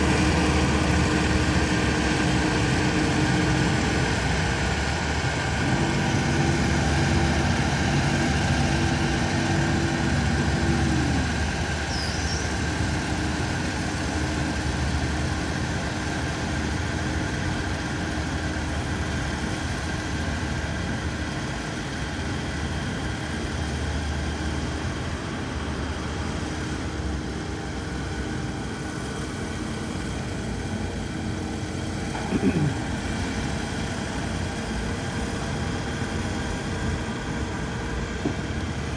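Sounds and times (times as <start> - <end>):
harvester engine and cutting machinery: 0.0 - 38.9.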